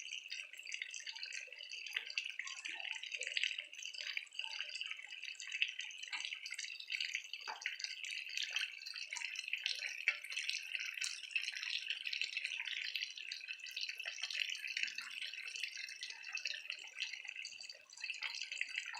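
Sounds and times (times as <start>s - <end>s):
water trickling into pond: 0.0s - 18.9s.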